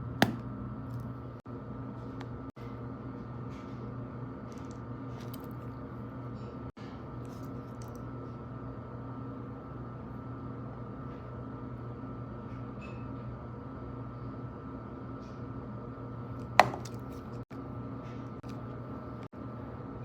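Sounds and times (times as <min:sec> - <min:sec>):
steady machine hum: 0:00.0 - 0:12.6, 0:13.2 - 0:20.0.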